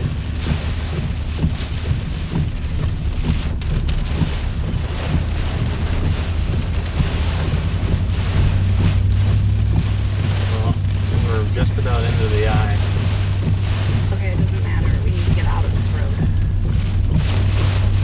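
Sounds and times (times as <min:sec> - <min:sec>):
low rumble: 0:00.0 - 0:18.0
rain and wind against a vehicle: 0:00.0 - 0:18.0.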